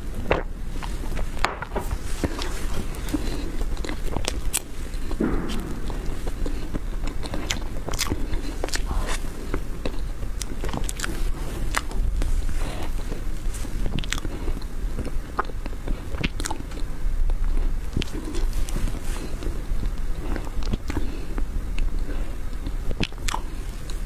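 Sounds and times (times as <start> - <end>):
person chewing with mouth clicks: 0.0 - 24.0.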